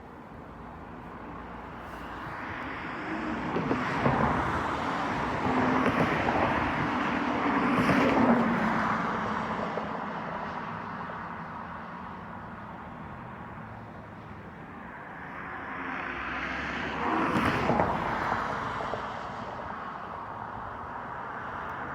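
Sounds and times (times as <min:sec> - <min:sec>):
vehicles passing by: 0:00.0 - 0:21.9.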